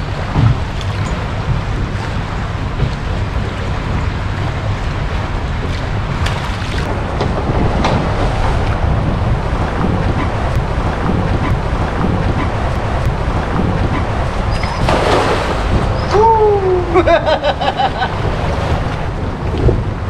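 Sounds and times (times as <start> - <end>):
water moving along boat hull: 0.0 - 20.0
wind buffeting microphone: 0.0 - 20.0.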